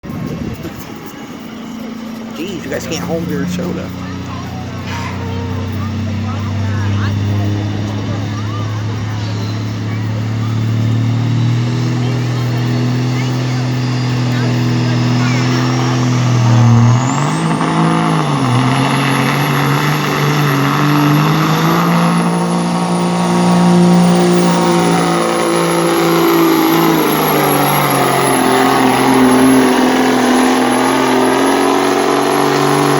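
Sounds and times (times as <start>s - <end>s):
diesel truck engine under load: 0.0s - 32.9s.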